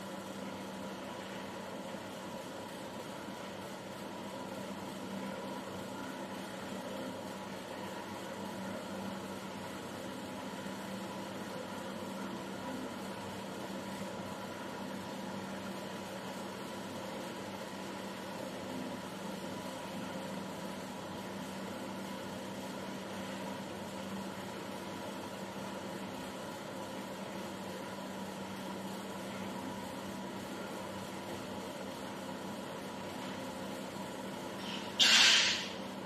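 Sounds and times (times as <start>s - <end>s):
machine humming steadily: 0.0s - 36.0s.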